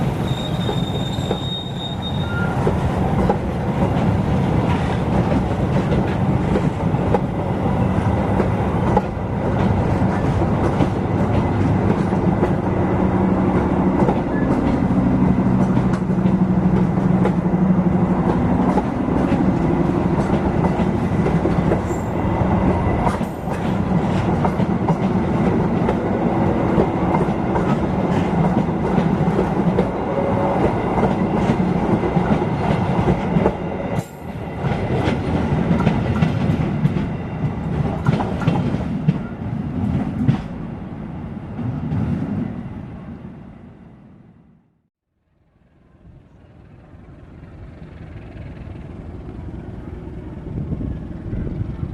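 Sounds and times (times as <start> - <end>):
train rumbling on rails: 0.0 - 44.7, 45.4 - 51.9.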